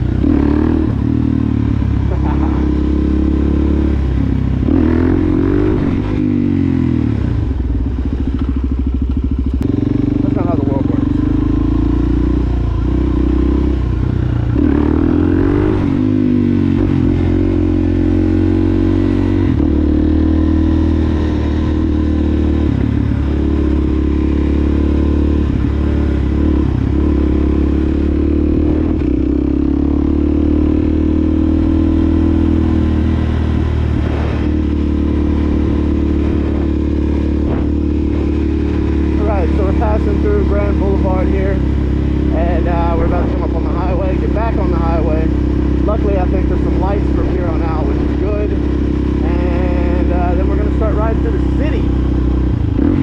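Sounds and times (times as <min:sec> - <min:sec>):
motorcycle engine running loud: 0:00.0 - 0:53.0.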